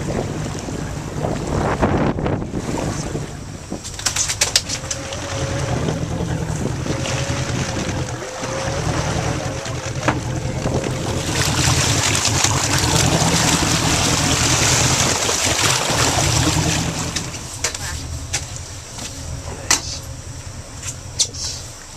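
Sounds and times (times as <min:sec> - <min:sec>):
boat engine humming: 0:00.0 - 0:21.9
water rushing along hull: 0:00.0 - 0:21.9
wind: 0:00.0 - 0:21.9.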